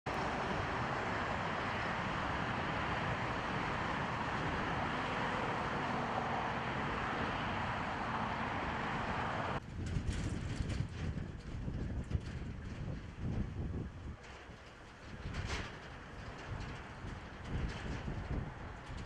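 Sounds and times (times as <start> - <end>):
strong wind rushing: 0.1 - 19.0
wind gusts buffeting microphone: 0.1 - 19.0.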